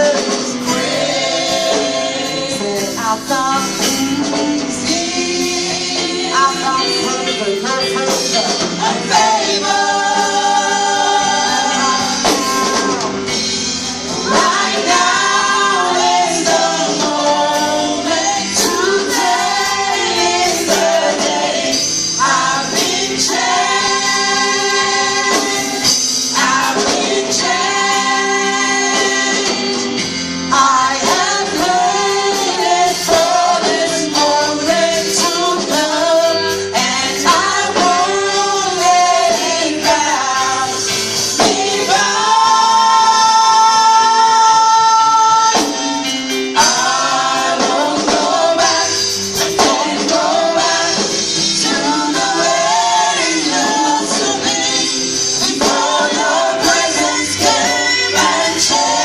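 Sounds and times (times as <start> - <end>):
choir singing gospel: 0.0 - 59.0
instrumental backing: 0.0 - 59.0.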